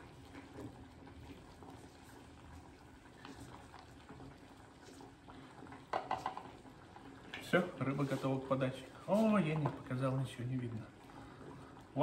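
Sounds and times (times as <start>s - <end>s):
juice dripping: 0.0s - 12.0s.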